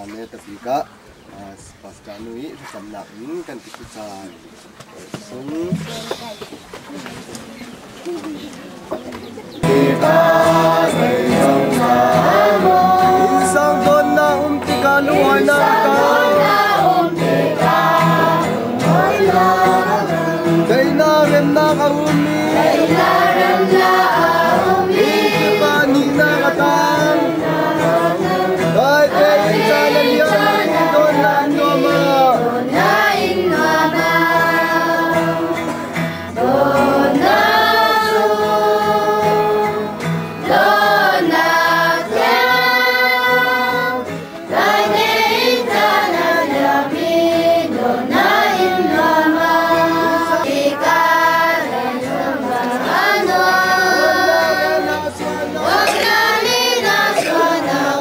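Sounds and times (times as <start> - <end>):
crowd singing together: 9.4 - 58.0.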